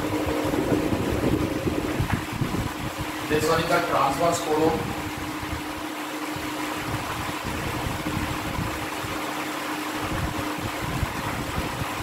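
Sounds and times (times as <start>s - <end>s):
fan noise: 0.0s - 12.0s.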